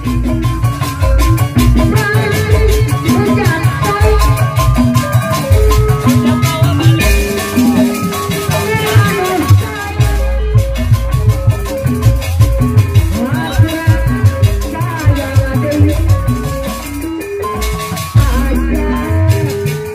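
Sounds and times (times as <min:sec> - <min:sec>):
drums beating: 0:00.0 - 0:19.9
winding melody: 0:00.0 - 0:19.9.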